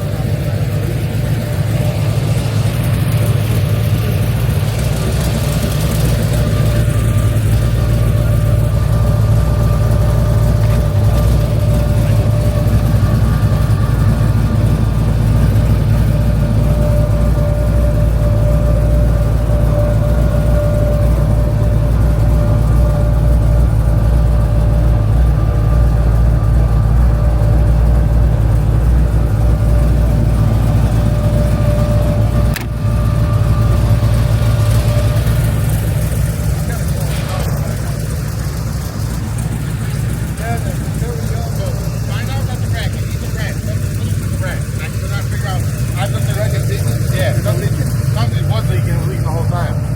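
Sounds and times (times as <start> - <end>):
faint steady whine: 0.0 - 49.9
vehicle engine running: 0.0 - 49.9.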